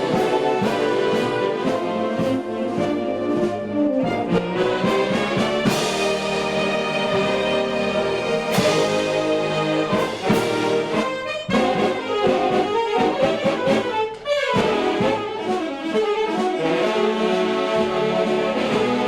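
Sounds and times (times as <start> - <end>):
string band music with saxophones: 0.0 - 19.0.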